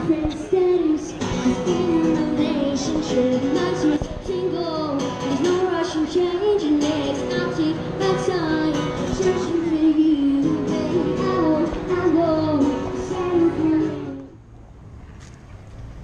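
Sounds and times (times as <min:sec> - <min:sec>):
backing music: 0:00.0 - 0:14.3
person singing into a microphone: 0:00.0 - 0:14.3.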